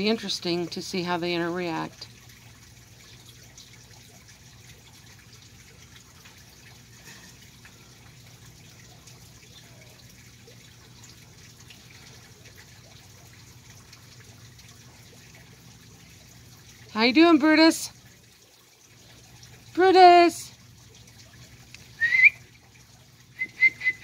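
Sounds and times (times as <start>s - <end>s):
low steady hum: 0.0s - 24.0s
trickle of running water: 0.0s - 24.0s.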